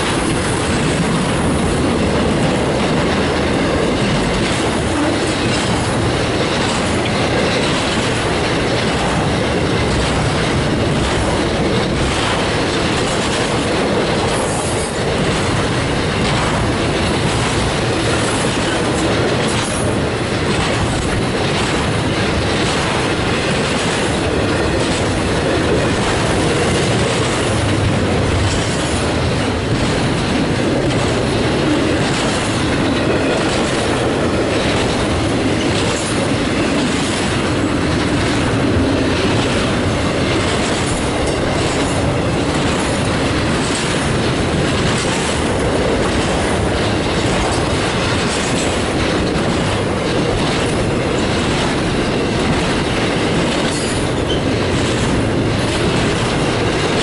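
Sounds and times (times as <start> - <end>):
freight train rolling past: 0.0 - 57.0
train wheels clickety-clack: 0.0 - 57.0.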